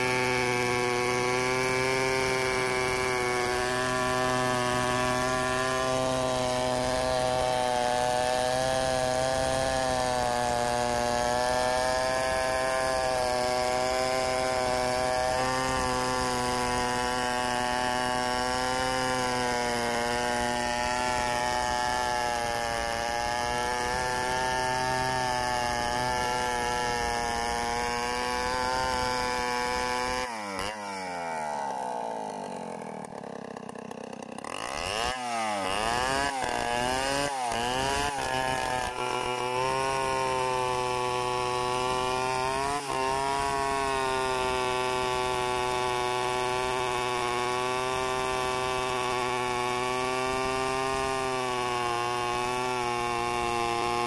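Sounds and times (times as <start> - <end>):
chainsaw cutting a log: 0.0 - 54.0.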